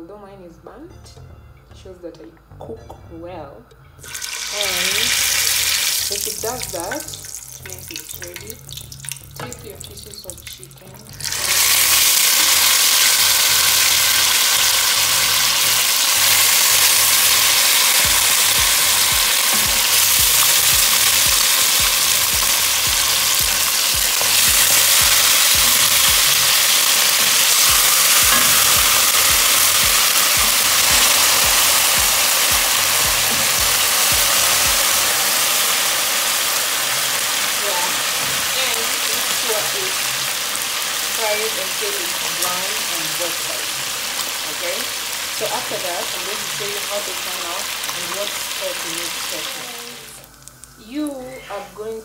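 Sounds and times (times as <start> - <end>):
chicken frying in hot oil: 4.0 - 50.8.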